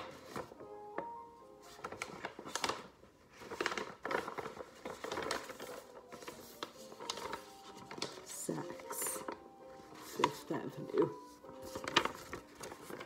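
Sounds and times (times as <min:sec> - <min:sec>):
paper bags rustling and crinkling: 0:00.0 - 0:13.0.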